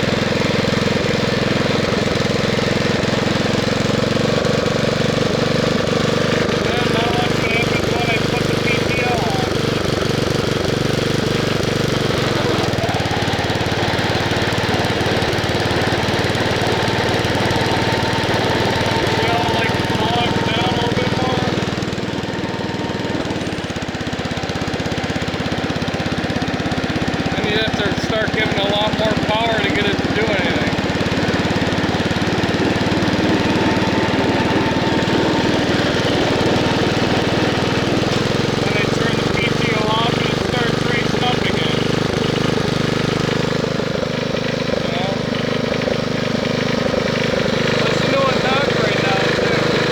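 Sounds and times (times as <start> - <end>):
air-cooled engine running: 0.0 - 49.9.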